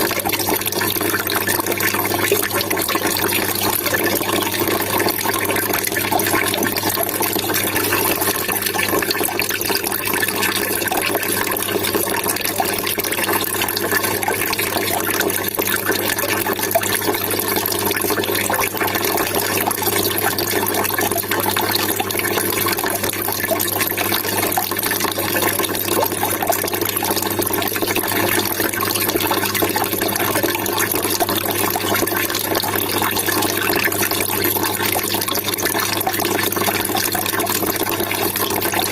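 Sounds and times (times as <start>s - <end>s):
trickling splashing water: 0.0s - 38.9s.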